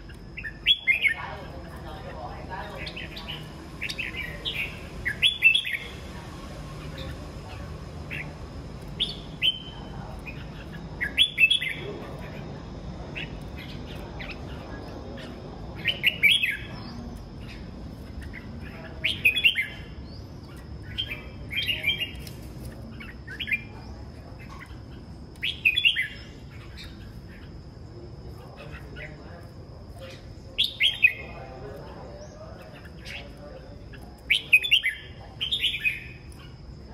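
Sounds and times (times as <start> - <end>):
birds singing warbled phrases: 0.0 - 36.9.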